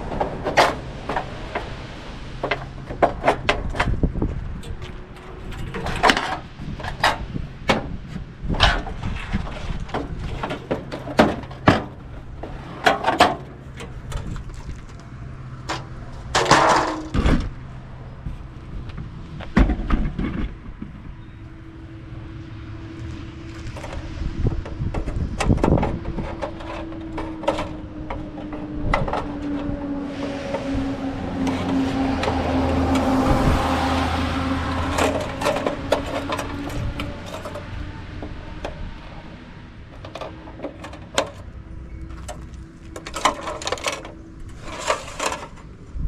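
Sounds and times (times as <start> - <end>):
sheet metal clanking: 2.4 - 17.6, 23.6 - 45.7.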